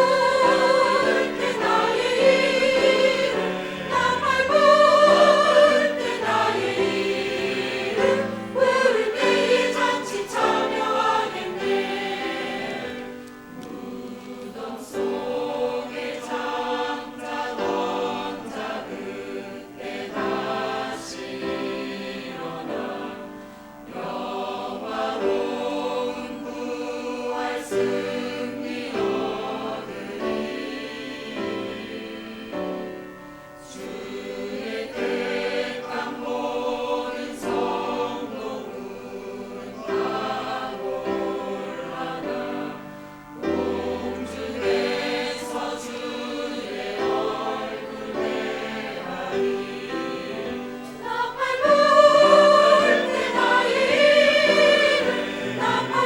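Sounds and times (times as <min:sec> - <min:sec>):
choir singing: 0:00.0 - 0:56.0
tenor singing a hymn: 0:00.0 - 0:56.0.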